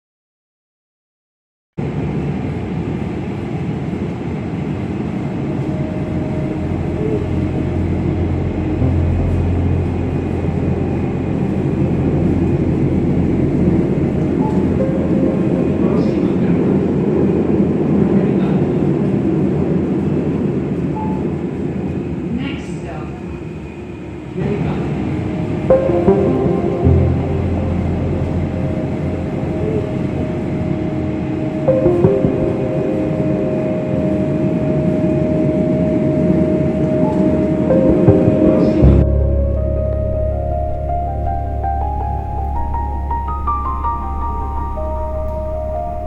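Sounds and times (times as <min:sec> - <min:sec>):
train rumbling: 0:01.8 - 0:46.0.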